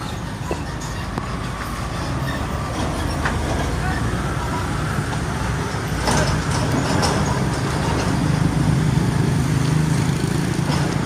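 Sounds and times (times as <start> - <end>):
heavy road traffic: 0.0 - 11.0
truck diesel engine drone: 0.0 - 11.0.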